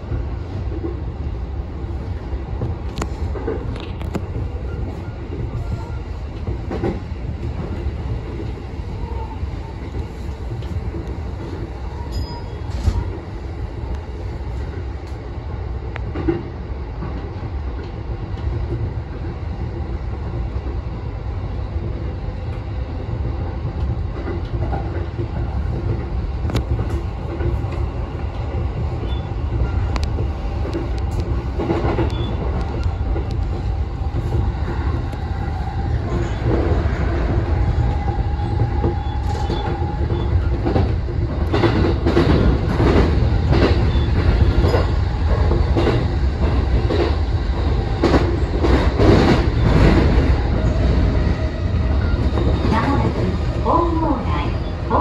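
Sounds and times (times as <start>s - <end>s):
sharp clacks of train: 0.0s - 55.0s
train wheels rumbling on track: 0.0s - 55.0s.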